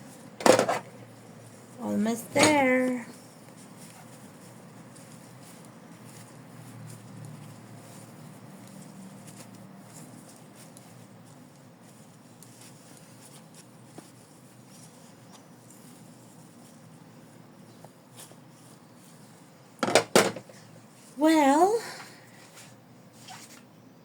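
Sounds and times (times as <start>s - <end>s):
stuffing rustling and scratching: 0.0s - 23.7s.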